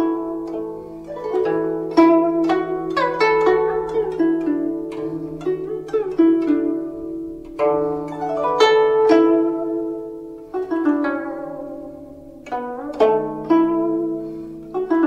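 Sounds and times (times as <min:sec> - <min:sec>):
plucked string instrument melody: 0:00.0 - 0:15.0
steady low tone: 0:00.0 - 0:15.0.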